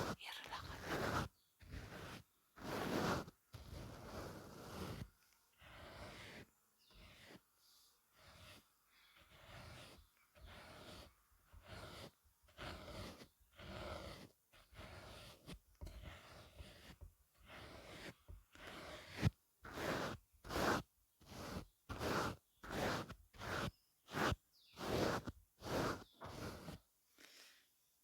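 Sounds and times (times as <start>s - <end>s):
brushes sweeping across microphone: 0.0s - 7.4s, 9.3s - 26.8s.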